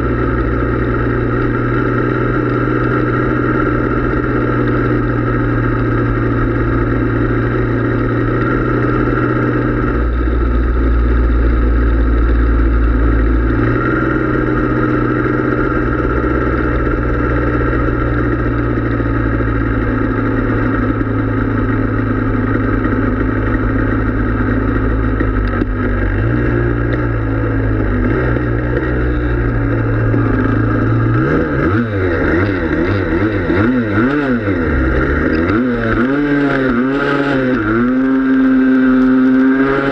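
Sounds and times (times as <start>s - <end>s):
two-stroke engine running and revving: 0.0s - 39.9s.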